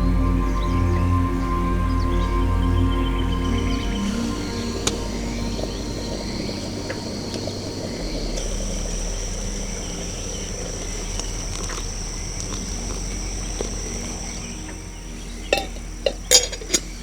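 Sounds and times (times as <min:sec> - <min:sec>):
insects buzzing high-pitched: 0:00.0 - 0:17.0
low background rumble: 0:00.0 - 0:17.0.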